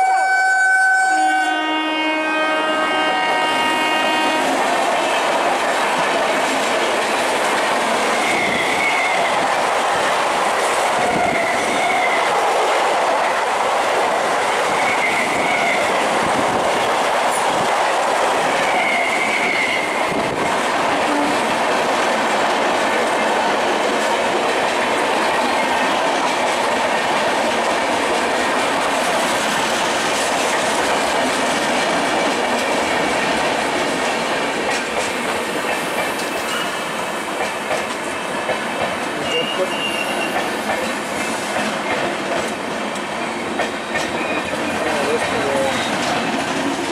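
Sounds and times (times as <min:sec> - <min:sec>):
train wheels rumbling on rails: 0:01.0 - 0:46.9.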